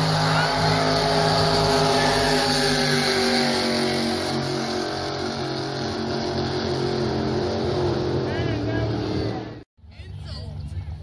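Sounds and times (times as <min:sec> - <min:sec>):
jet boat engines at full throttle: 0:00.0 - 0:11.0.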